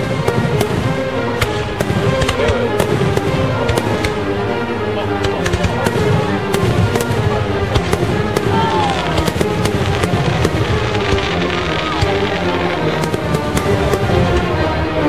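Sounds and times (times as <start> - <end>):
fireworks bangs and crackles: 0.0 - 15.0
music: 0.0 - 15.0.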